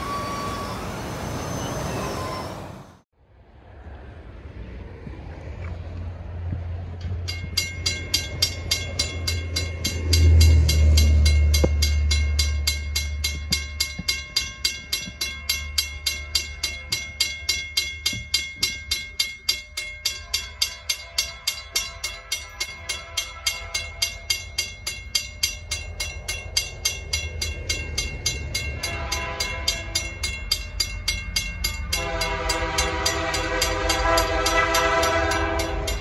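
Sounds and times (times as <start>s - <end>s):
railroad crossing bell ringing: 6.8s - 36.0s.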